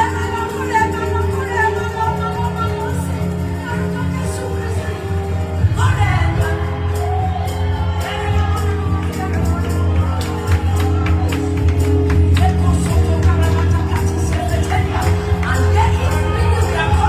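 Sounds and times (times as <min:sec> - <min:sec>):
bass line: 0:00.0 - 0:17.0
person singing: 0:00.0 - 0:17.0
upbeat gospel worship music: 0:00.0 - 0:17.0.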